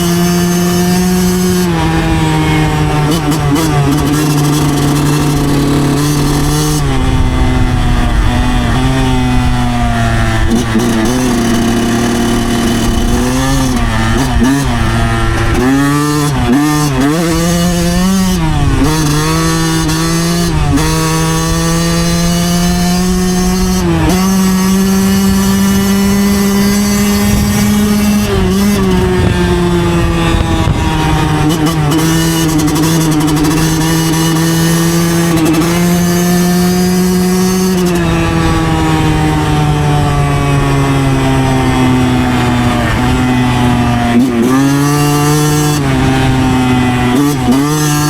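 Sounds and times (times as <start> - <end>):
two-stroke motorcycle engine revving: 0.0 - 48.0.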